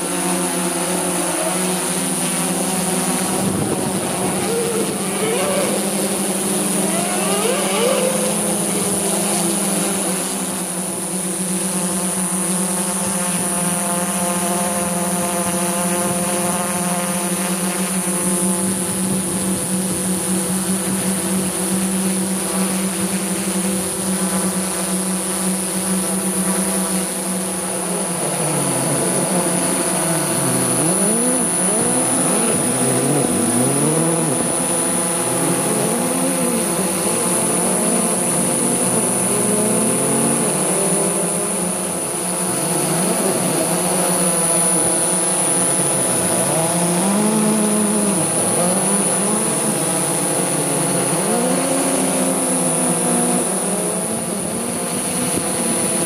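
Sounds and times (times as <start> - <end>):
drone motors humming: 0.0 - 56.0
high whine: 0.0 - 56.0.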